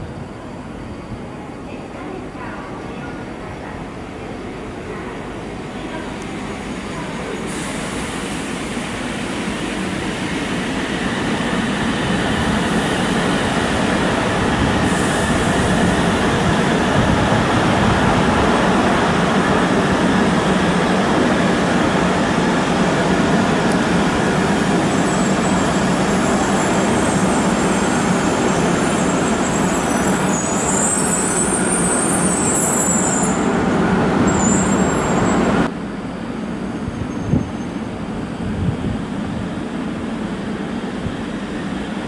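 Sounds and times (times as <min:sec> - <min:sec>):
train wheel and rail noise: 0:00.0 - 0:42.0.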